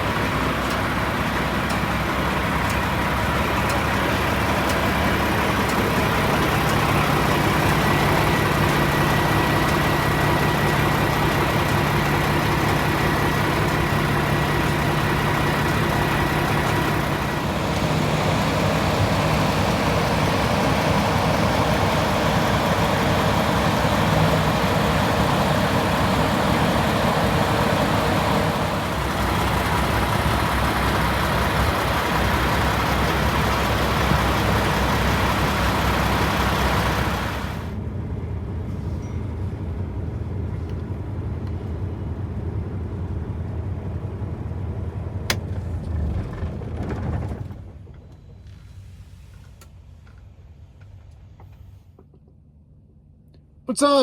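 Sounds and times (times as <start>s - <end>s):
road noise: 0.0s - 54.0s
truck engine hum: 0.0s - 54.0s.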